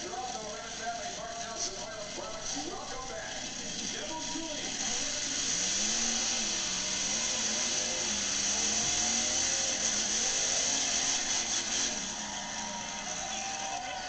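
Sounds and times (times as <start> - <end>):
loud noise wash: 0.0 - 14.0
monster truck engine revving: 0.0 - 14.0.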